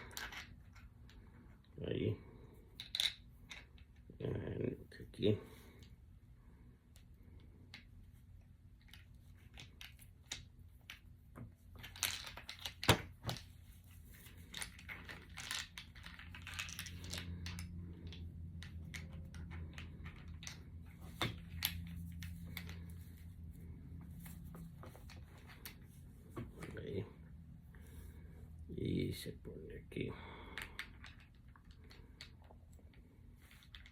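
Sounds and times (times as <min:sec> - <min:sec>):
low steady hum: 0:00.0 - 0:33.9.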